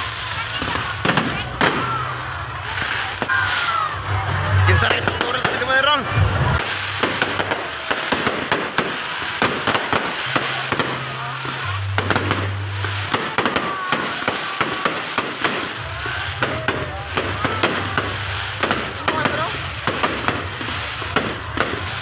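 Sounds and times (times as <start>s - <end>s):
fireworks pops and bangs: 0.0s - 22.0s.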